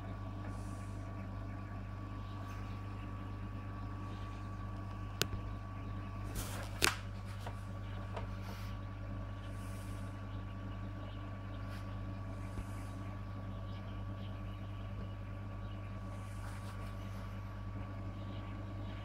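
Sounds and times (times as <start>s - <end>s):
aquarium equipment hum: 0.0s - 19.0s.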